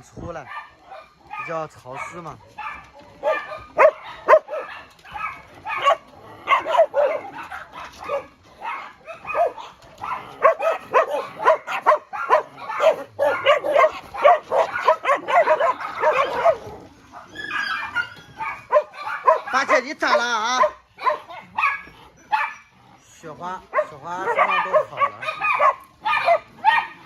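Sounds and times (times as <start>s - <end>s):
dogs barking and yipping: 0.3s - 27.0s.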